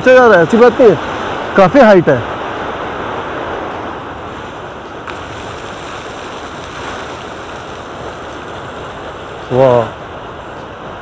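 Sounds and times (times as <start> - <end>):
fountain water spraying and splashing: 0.0 - 11.0
river flowing: 0.0 - 11.0.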